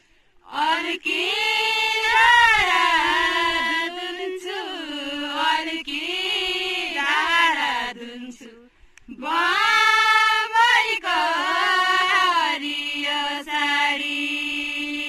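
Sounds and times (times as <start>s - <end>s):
women singing unaccompanied: 0.4s - 15.0s.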